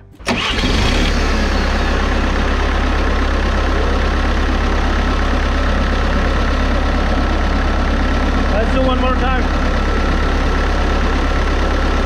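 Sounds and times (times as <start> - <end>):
diesel engine idling loudly: 0.3 - 12.0.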